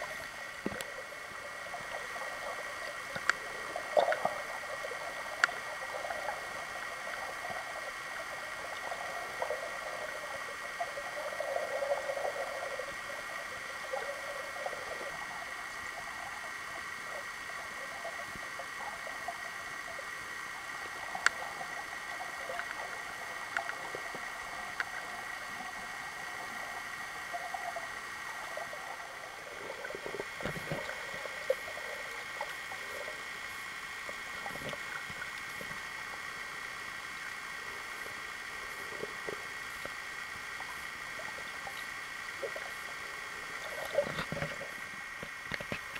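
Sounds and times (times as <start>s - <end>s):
muffled water murmur: 0.0s - 45.9s
steady hiss with constant tone: 0.0s - 45.9s.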